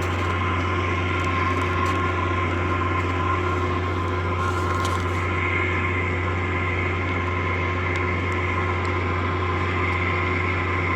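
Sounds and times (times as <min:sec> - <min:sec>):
generator humming and whining: 0:00.0 - 0:10.9.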